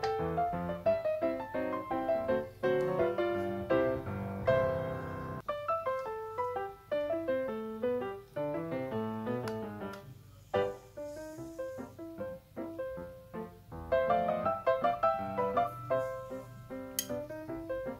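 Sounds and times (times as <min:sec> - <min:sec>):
piano music: 0:00.0 - 0:10.0, 0:10.6 - 0:17.9.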